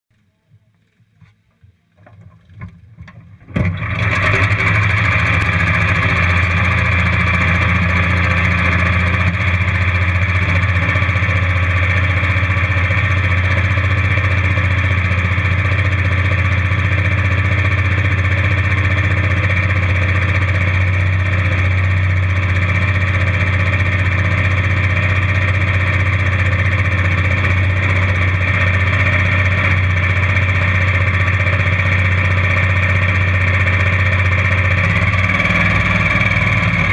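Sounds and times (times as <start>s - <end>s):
small engine idling: 0.2s - 36.9s.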